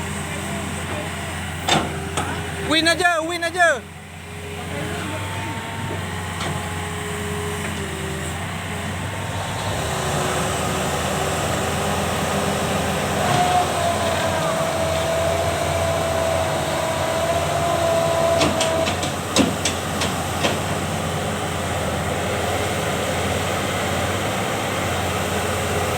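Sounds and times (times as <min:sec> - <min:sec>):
heavy diesel machinery running: 0:00.0 - 0:25.9
machinery whine: 0:00.0 - 0:25.9.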